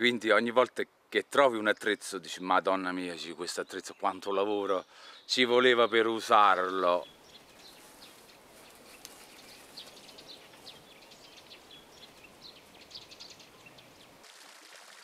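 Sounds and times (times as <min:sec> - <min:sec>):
small birds chirping: 0:01.8 - 0:14.2.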